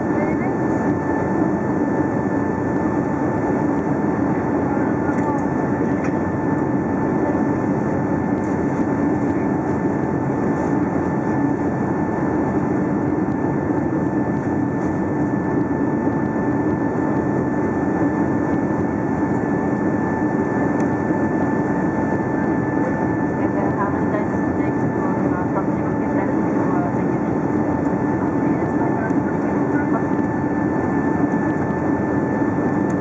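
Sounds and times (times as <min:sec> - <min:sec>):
jet cabin rumble: 0:00.0 - 0:33.0
thin steady whine tones: 0:00.0 - 0:33.0.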